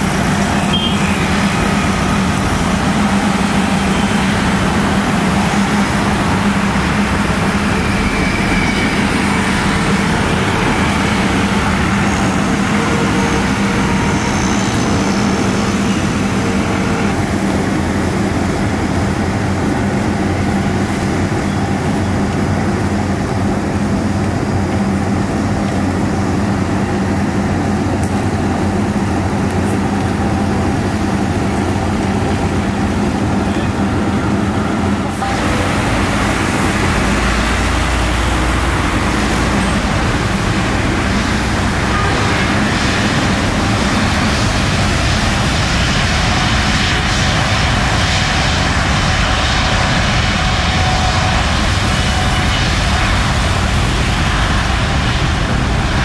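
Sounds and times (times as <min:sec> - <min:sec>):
loud engine rumble: 0:00.0 - 0:56.0.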